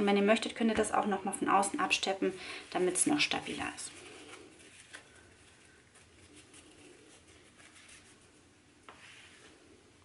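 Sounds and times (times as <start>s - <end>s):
fabric and webbing rustling: 0.7s - 9.7s.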